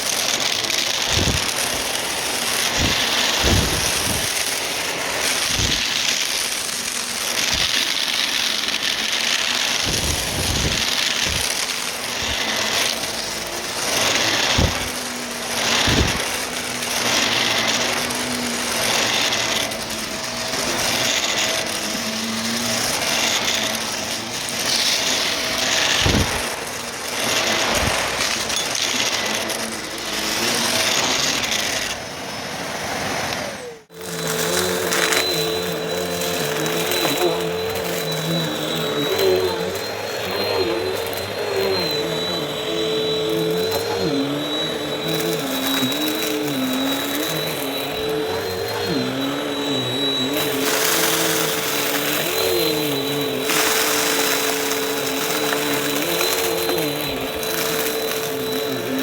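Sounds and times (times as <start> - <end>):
brushroll crunching debris: 0.0 - 31.4, 33.9 - 59.0
vacuum cleaner motor whine: 0.0 - 59.0.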